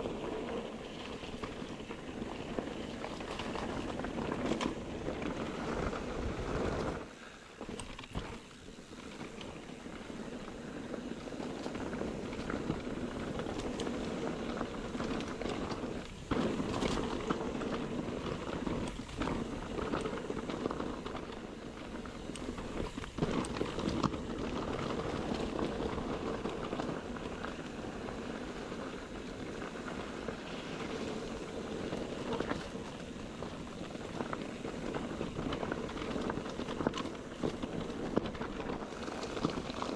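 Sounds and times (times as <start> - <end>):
bike knocking and rattling: 0.0 - 39.9
bike tyre and wind noise: 0.0 - 39.9.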